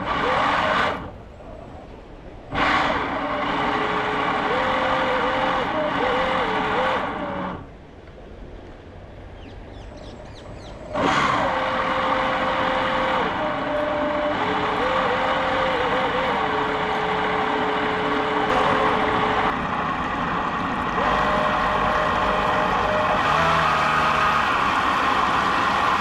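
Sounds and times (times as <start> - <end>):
jet boat motor whining: 0.0 - 26.0.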